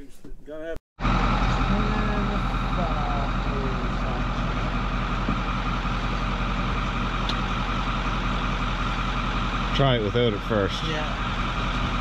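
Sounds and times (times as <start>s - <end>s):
engine running steadily: 1.0s - 12.0s.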